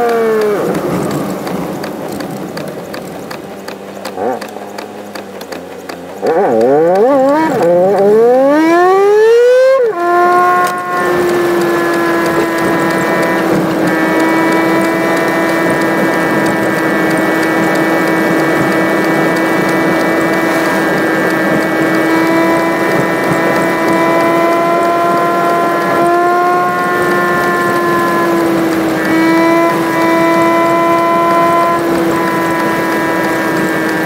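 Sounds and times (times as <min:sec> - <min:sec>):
sped-up engine drone: 0:00.0 - 0:34.0.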